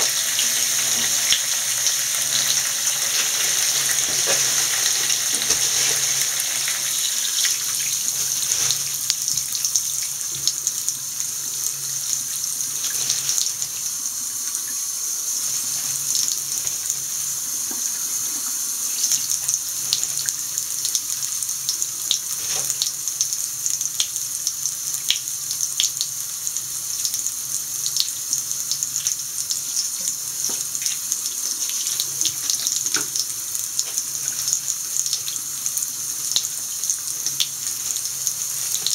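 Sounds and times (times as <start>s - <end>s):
tap water running into basin: 0.0s - 38.9s.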